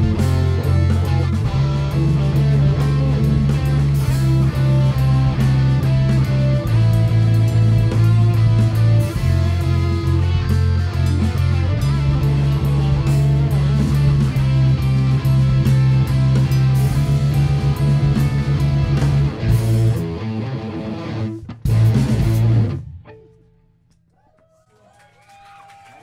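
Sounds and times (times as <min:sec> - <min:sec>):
live rock band playing: 0:00.0 - 0:23.6
loud guitar chord ringing: 0:00.0 - 0:23.6.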